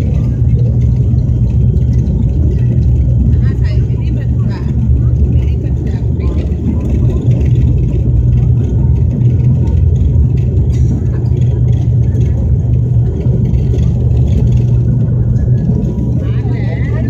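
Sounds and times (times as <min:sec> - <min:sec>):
engine roar in cabin: 0:00.0 - 0:17.0
turboprop propeller drone: 0:00.0 - 0:17.0.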